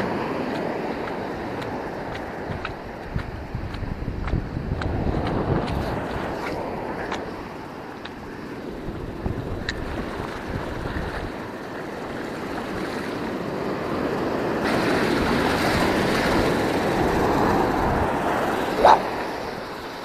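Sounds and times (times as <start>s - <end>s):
ocean surf breaking: 0.0s - 20.0s
wind on microphone: 0.0s - 20.0s.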